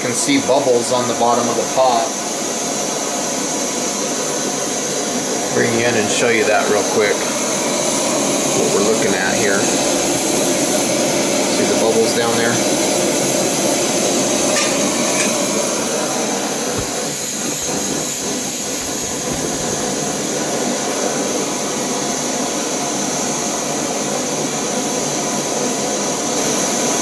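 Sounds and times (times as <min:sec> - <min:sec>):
stove flame rushing: 0:00.0 - 0:27.0.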